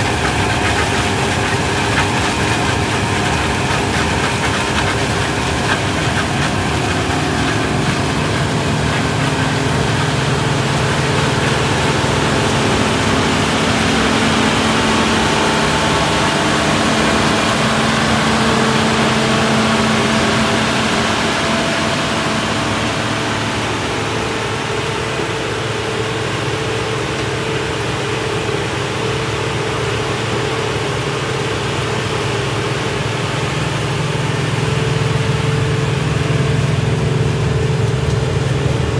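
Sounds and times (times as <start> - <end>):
harvester machinery drone: 0.0 - 38.9.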